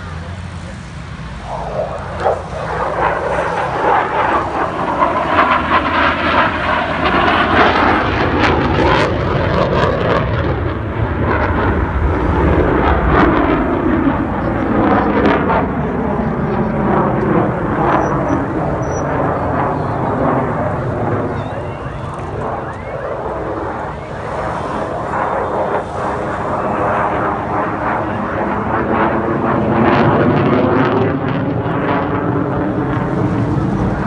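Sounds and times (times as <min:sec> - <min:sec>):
jet engine roaring with crackles: 0:00.0 - 0:34.0.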